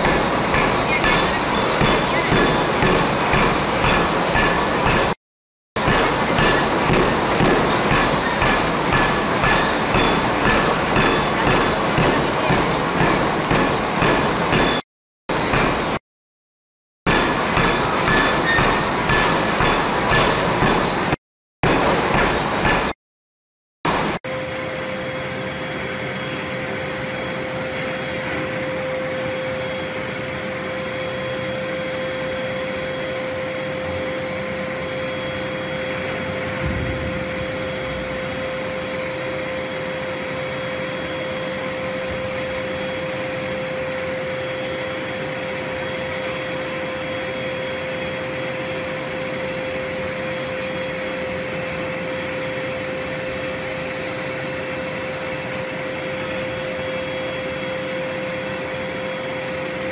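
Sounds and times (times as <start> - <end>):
hydraulic press hissing and whining: 0.0 - 5.2, 5.8 - 16.0, 17.1 - 23.0, 29.4 - 59.9.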